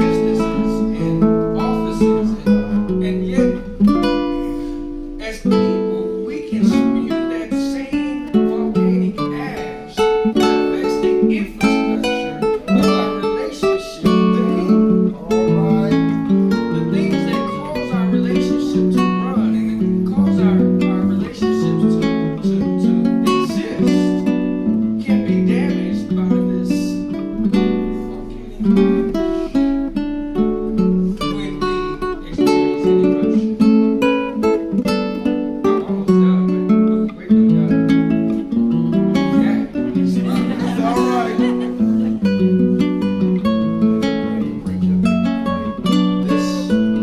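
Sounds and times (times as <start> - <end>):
acoustic guitar strummed and picked: 0.0 - 47.0.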